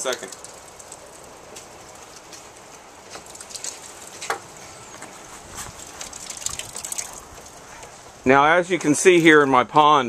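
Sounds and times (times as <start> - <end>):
rain pattering: 0.0 - 9.4.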